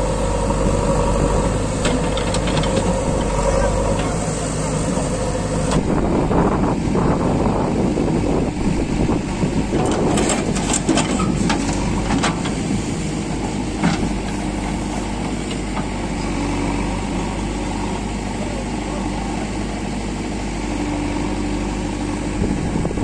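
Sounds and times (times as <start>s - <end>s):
diesel engines running: 0.0s - 23.0s.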